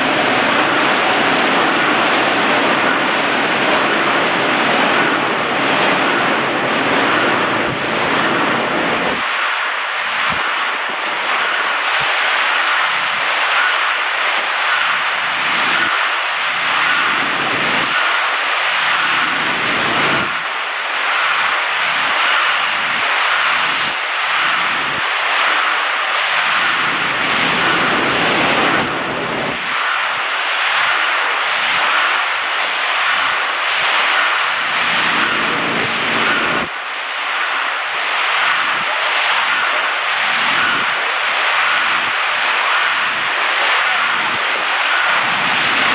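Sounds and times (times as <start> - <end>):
welding machine hissing and pulsing: 0.0 - 45.9.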